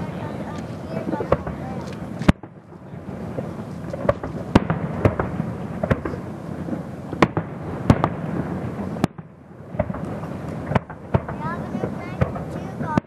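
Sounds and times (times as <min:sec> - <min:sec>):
fireworks bangs: 0:00.0 - 0:13.0
low rumble of fireworks bursts: 0:00.0 - 0:13.0.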